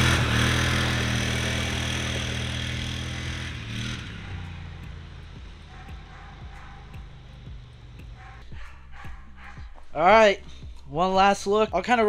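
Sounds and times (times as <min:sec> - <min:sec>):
atv engine driving away: 0:00.0 - 0:10.4.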